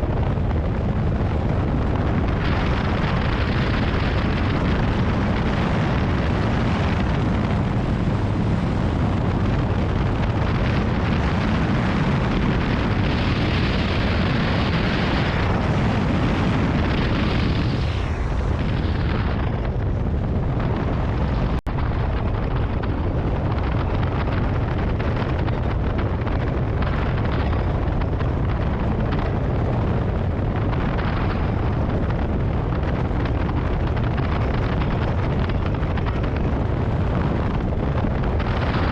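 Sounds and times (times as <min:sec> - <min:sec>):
strong wind buffeting microphone: 0:00.0 - 0:38.9.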